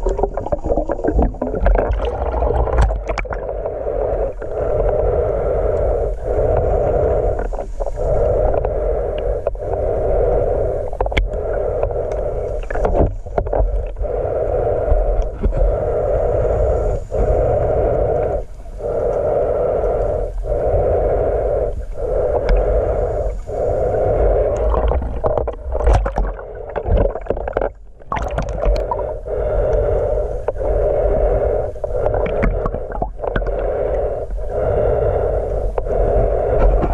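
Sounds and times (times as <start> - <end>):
muffled underwater wash: 0.0 - 36.9.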